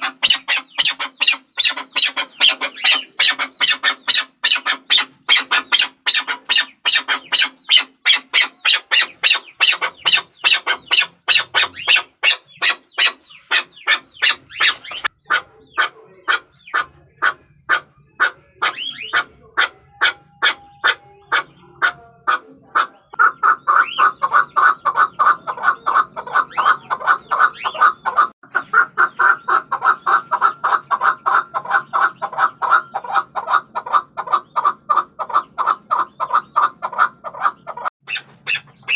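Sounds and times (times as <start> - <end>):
partridges clucking: 0.0 - 32.8.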